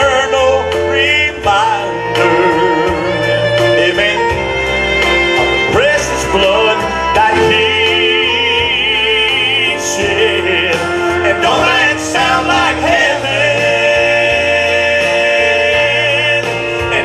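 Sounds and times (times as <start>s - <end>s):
male gospel group singing: 0.0s - 17.0s
musical accompaniment: 0.0s - 17.0s.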